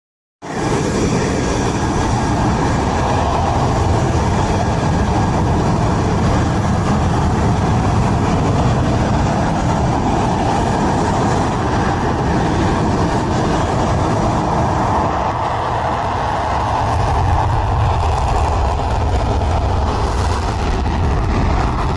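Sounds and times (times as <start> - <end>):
fighter jet engines roaring: 0.4 - 21.9.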